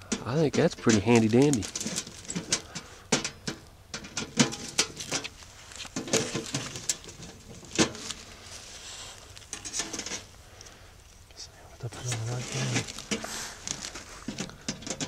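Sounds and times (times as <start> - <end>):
metal stove parts clicking: 0.0 - 8.3, 9.3 - 10.7, 12.0 - 15.0.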